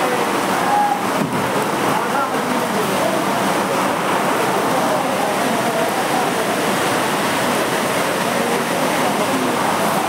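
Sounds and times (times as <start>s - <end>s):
crowd of voices talking: 0.0s - 10.0s
steady background noise: 0.0s - 10.0s.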